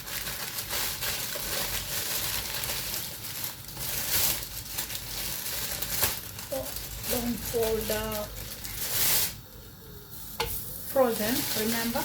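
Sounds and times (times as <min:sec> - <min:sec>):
plastic packet crinkling and tearing: 0:00.0 - 0:09.5, 0:10.9 - 0:12.0.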